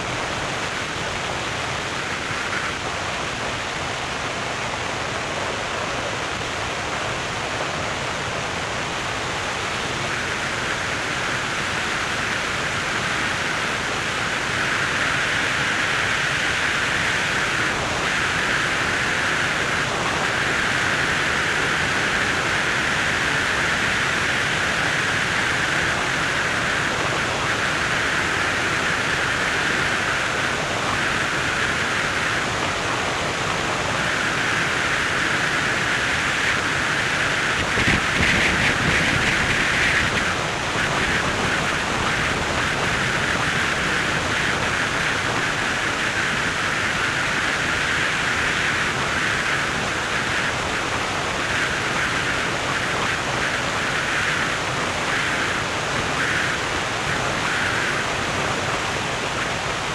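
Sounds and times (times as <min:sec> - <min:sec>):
wind rushing past a car: 0:09.4 - 0:59.9.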